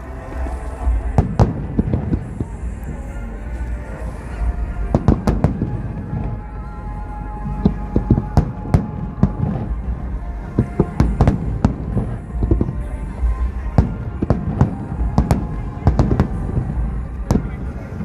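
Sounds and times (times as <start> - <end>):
deep rumble: 0.0 - 18.0
music playing: 0.0 - 18.0
fireworks bangs: 0.3 - 3.1, 4.4 - 18.0.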